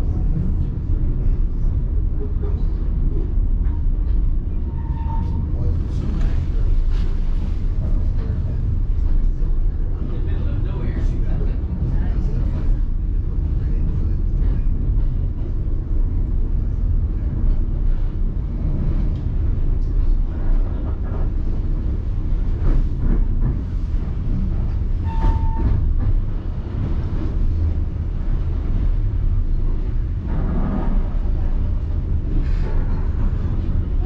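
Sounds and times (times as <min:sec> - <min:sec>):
train car rumbling along track: 0:00.0 - 0:34.0.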